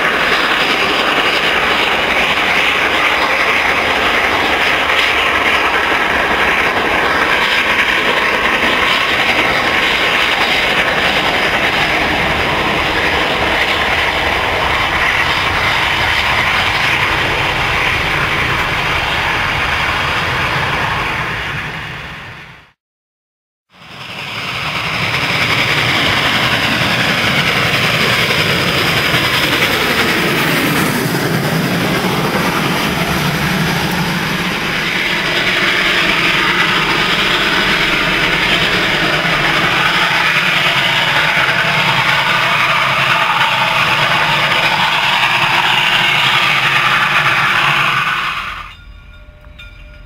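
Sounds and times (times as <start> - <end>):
train wheels rumbling on rail: 0.0 - 22.8, 23.7 - 50.0.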